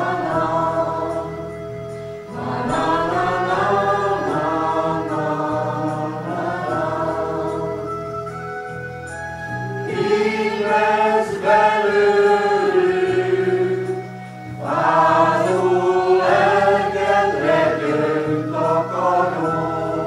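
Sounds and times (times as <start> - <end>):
mixed choir singing: 0.0 - 1.6, 2.3 - 8.4, 9.7 - 20.0.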